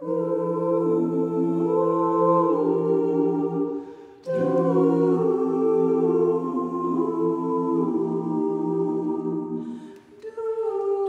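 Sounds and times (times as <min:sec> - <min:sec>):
a cappella ensemble singing chords: 0:00.0 - 0:11.0.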